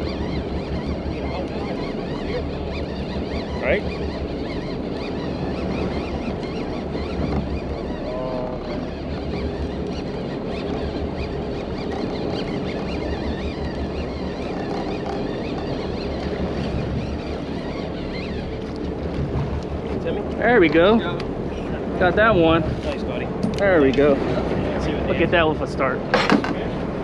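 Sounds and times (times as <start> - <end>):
low boat hum: 0.0 - 27.0
water slapping boat hull: 0.0 - 27.0
wind buffeting microphone: 0.0 - 27.0.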